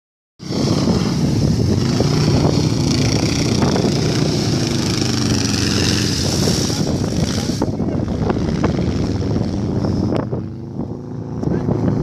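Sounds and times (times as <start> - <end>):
buggy engine running steadily: 0.4 - 12.0.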